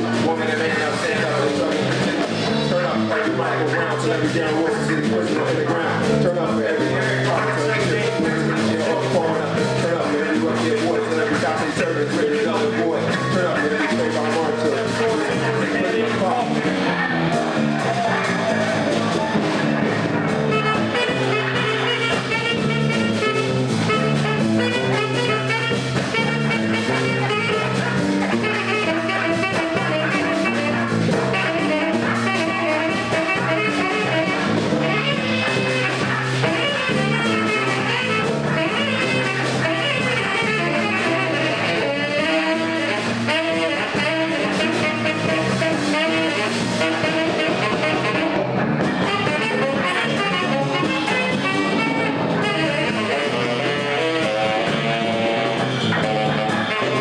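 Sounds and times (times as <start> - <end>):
jazz band playing: 0.0 - 57.0
saxophone runs: 0.0 - 57.0.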